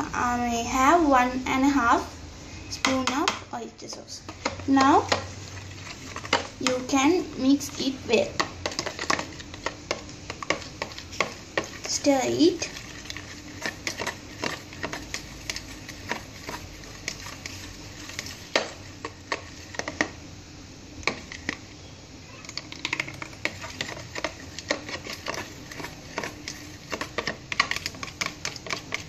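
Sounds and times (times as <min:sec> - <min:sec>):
metal spoon stirring in plastic tub: 0:02.8 - 0:20.2, 0:21.0 - 0:21.7, 0:22.3 - 0:29.0.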